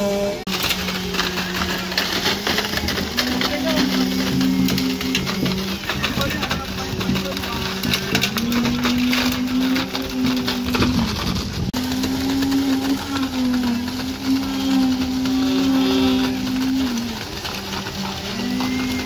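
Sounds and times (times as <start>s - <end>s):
concrete pump droning: 0.0s - 19.0s.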